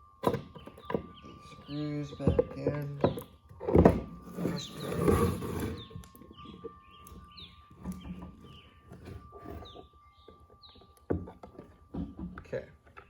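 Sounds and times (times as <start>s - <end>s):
bird chirping: 0.0s - 13.0s
handling and clattering noise: 0.0s - 13.0s.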